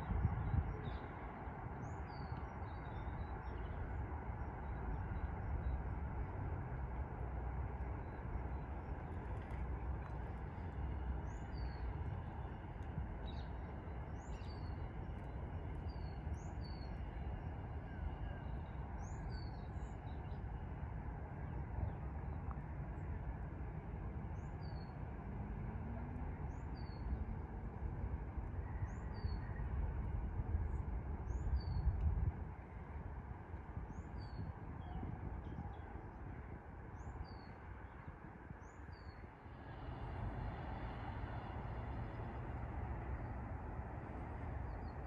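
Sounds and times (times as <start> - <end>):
distant traffic rumble: 0.0 - 45.0.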